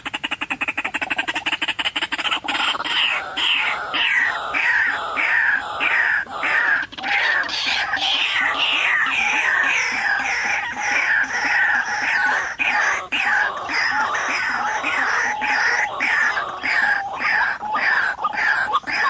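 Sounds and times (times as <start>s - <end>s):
waterhen calls: 0.0s - 19.0s.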